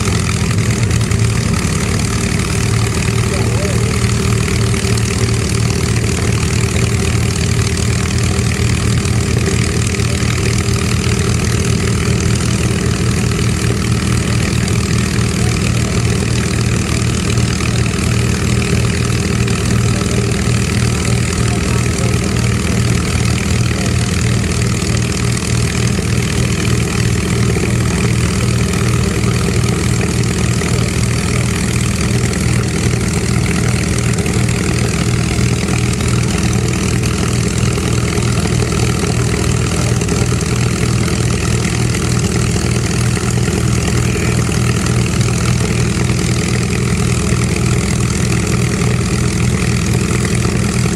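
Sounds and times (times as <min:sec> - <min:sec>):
piston engine idling: 0:00.0 - 0:50.9.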